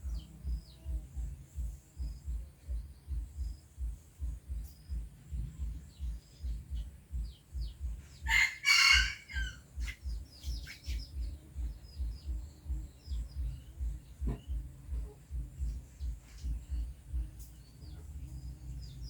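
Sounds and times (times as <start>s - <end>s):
low even thumping: 0.0s - 8.4s, 9.6s - 19.0s.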